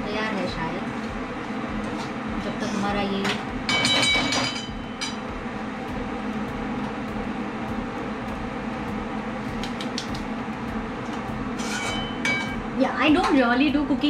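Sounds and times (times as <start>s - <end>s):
kitchen fan motor humming: 0.0s - 14.0s.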